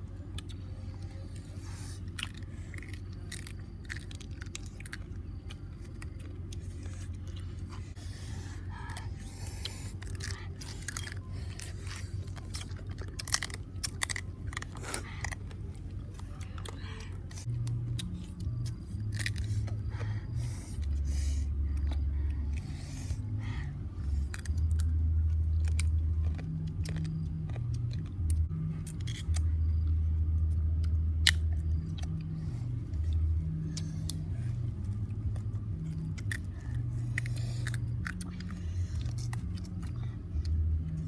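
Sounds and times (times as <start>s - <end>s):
low steady hum: 0.0s - 41.0s
chewing: 0.1s - 41.0s.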